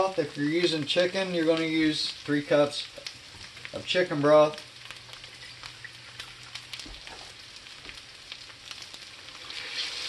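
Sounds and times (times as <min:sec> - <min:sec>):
broth pouring into hot pan: 0:00.0 - 0:10.0
food sizzling in skillet: 0:00.0 - 0:10.0.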